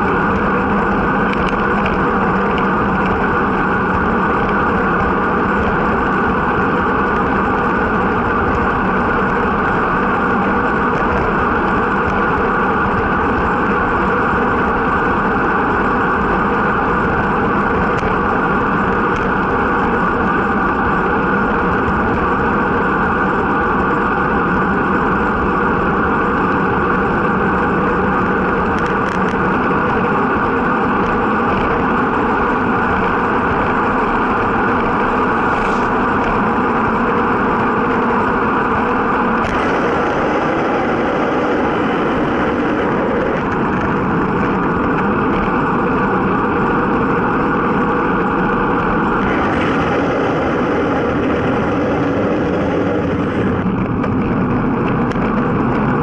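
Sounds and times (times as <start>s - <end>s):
bicycle tyre noise on road: 0.0s - 56.0s
wind rushing over microphone: 0.0s - 56.0s.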